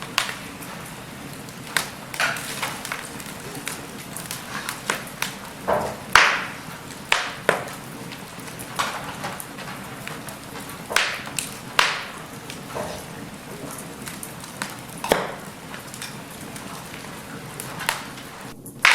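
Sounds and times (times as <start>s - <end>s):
low hiss: 0.0s - 18.9s
sharp pops from fire: 0.0s - 18.9s
wood fire crackling: 0.0s - 18.9s.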